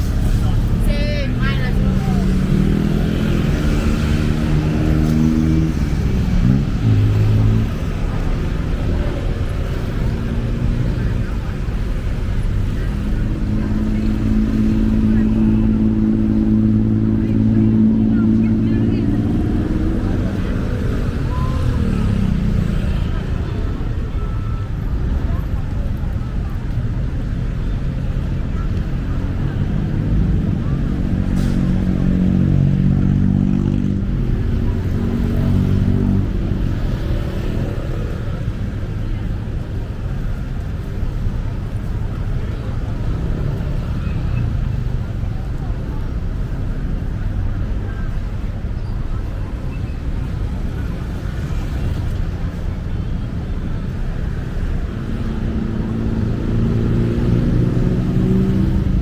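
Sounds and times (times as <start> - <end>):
city street traffic: 0.0 - 59.0
vehicle engine running nearby: 0.0 - 59.0.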